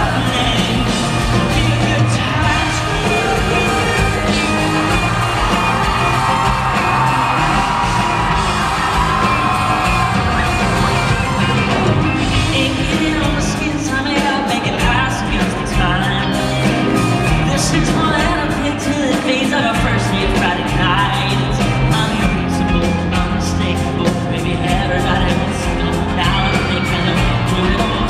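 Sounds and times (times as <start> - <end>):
man singing: 0.0 - 10.8, 12.2 - 28.0
live country-pop band playing: 0.0 - 28.0.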